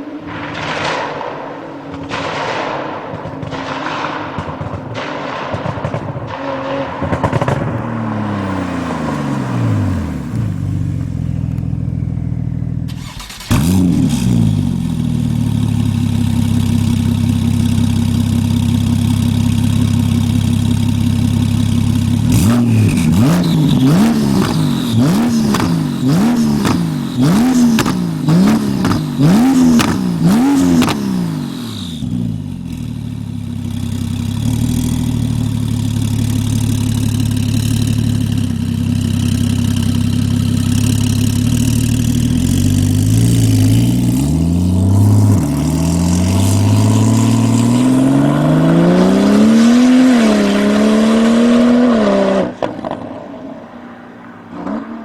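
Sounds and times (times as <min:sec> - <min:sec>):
exhaust crackles and pops: 0:00.0 - 0:51.0
car engine starting and idling: 0:00.0 - 0:55.0
engine throttle blips: 0:00.0 - 0:55.0.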